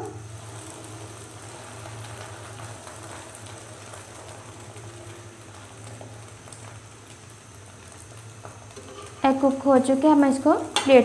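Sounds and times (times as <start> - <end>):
egg sizzling in oil: 0.0 - 11.0.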